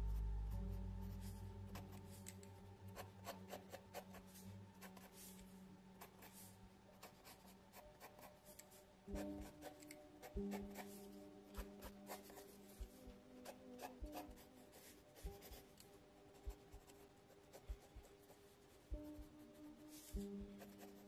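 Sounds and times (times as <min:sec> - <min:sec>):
pencil scratching on paper: 0:00.5 - 0:21.0.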